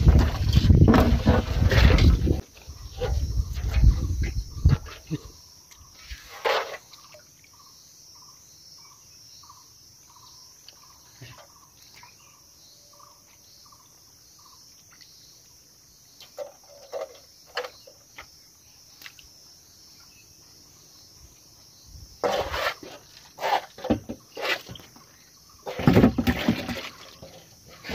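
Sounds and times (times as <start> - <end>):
high insect buzz: 2.6 - 26.1.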